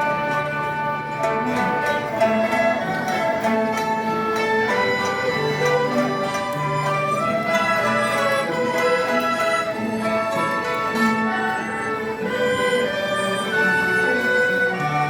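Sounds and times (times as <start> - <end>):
traditional orchestra melody: 0.0 - 15.0.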